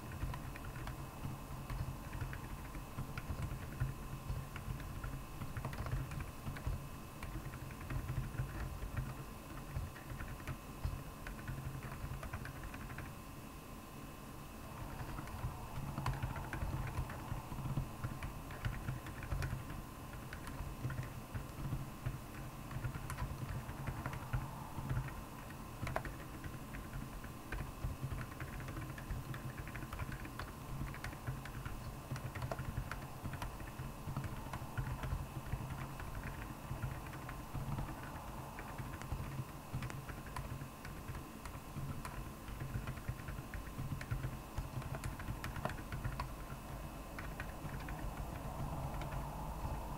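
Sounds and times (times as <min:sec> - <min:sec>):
muted keyboard typing: 0:00.0 - 0:13.2, 0:14.7 - 0:49.9.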